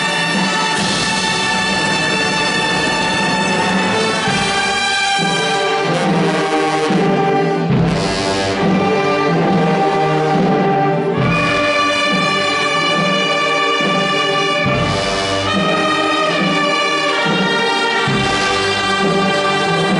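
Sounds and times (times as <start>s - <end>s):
wind band playing chords: 0.0s - 19.9s.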